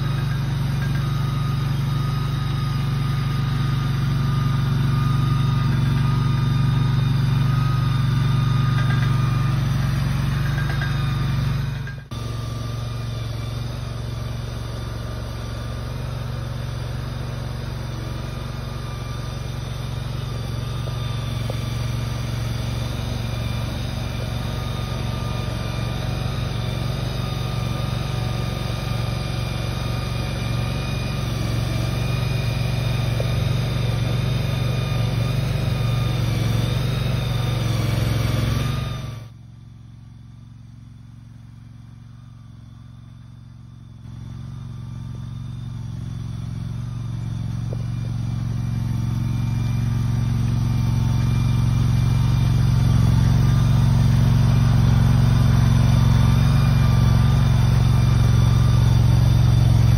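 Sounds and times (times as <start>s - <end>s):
machine engine running steadily: 0.0s - 59.9s.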